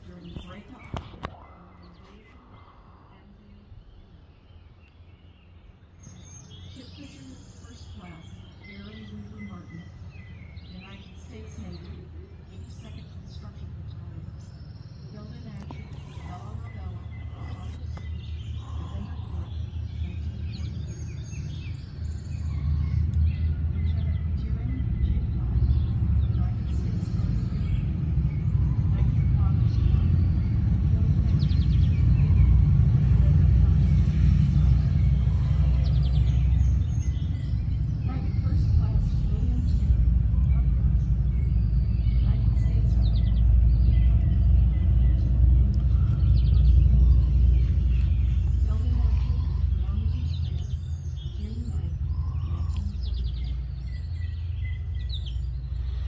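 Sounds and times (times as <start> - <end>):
birds chirping: 0.0 - 56.0
low steady rumble: 0.0 - 56.0.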